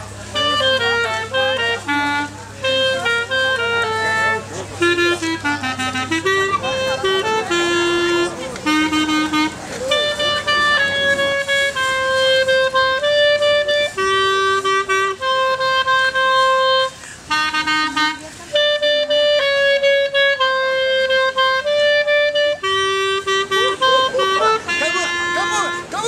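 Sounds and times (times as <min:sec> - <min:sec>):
woodwind playing slow melody: 0:00.0 - 0:26.0.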